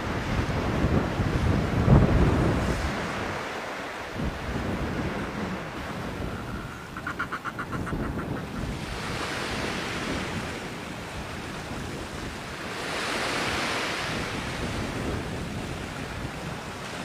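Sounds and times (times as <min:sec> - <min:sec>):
sea surf rushing: 0:00.0 - 0:17.0
wind: 0:00.0 - 0:17.0.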